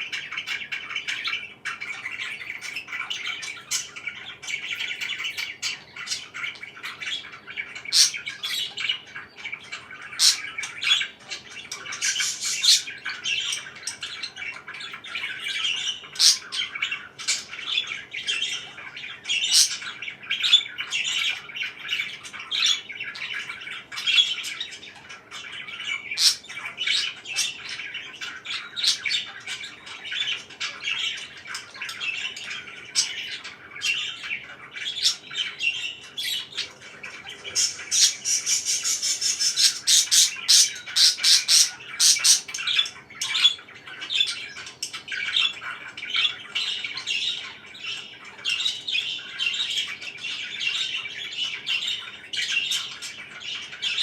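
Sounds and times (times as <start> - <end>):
parakeet chirps and squawks: 0.0 - 54.0
parakeets chattering: 0.0 - 54.0.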